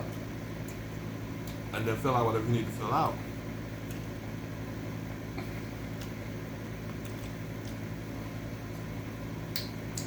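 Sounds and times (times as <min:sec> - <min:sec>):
air conditioning fan humming: 0:00.0 - 0:10.0.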